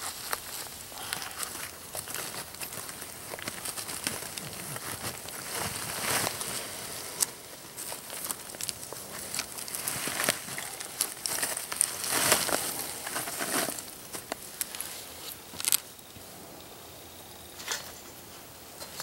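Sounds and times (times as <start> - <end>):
plastic wrapping crinkling: 0.0 - 16.1
charcoal lumps crunching and clicking: 0.0 - 16.2.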